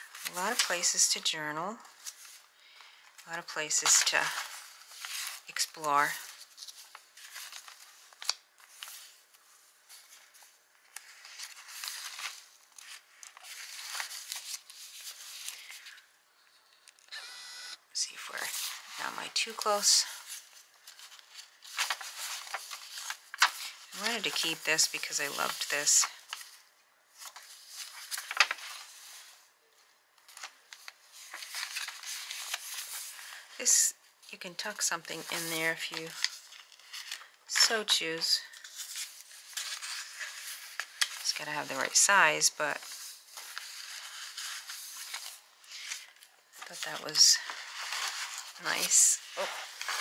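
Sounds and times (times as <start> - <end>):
paper pages rustling: 0.0 - 17.1, 18.1 - 50.0.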